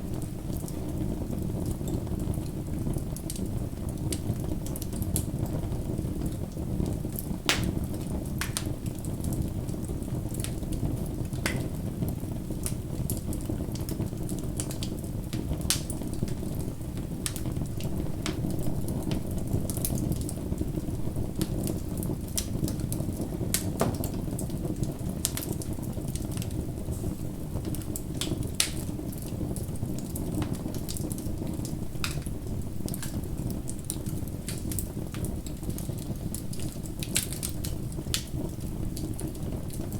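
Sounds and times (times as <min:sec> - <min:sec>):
bonfire crackling: 0:00.2 - 0:39.9.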